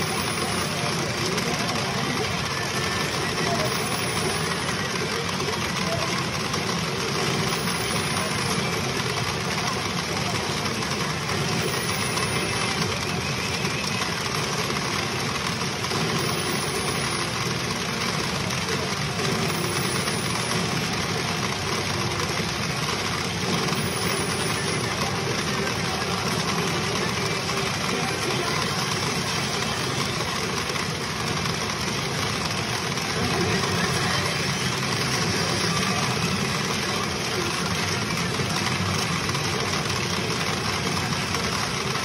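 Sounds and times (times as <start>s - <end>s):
pachinko machines running: 0.0s - 42.0s.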